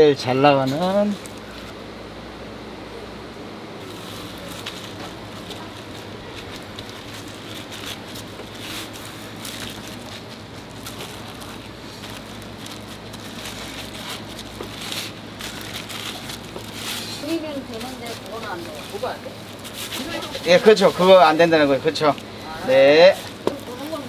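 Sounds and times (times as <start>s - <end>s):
low kitchen hum: 0.0s - 24.0s
gloved hands rustling and tapping: 3.8s - 24.0s.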